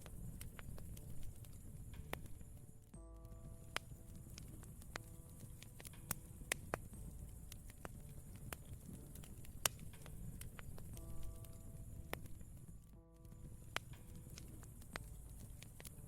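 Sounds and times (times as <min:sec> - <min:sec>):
campfire crackling: 0:00.0 - 0:16.0
low steady rumble: 0:00.0 - 0:16.0
soft piano notes: 0:00.0 - 0:16.0.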